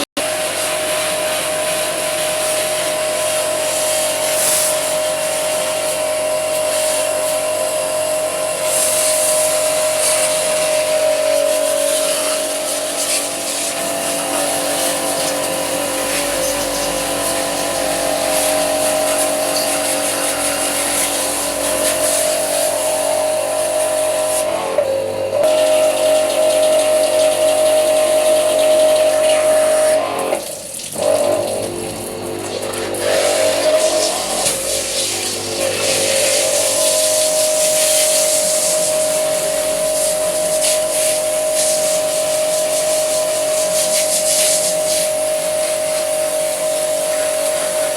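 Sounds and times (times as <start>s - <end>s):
pressure washer motor whining: 0.0s - 47.9s.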